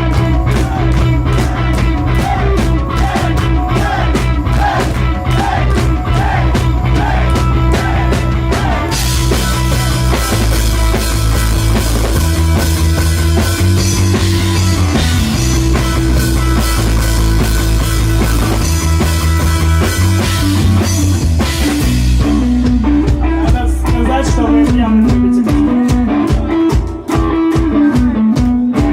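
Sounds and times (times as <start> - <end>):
picked guitar line: 0.0 - 28.9
rock band playing: 0.0 - 28.9.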